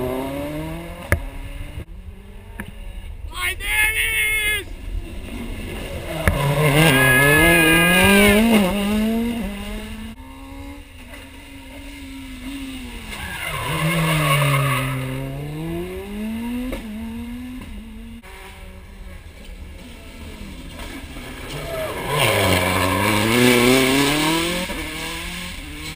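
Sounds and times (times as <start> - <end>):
rally car engine revving: 0.0 - 3.3, 4.7 - 25.9.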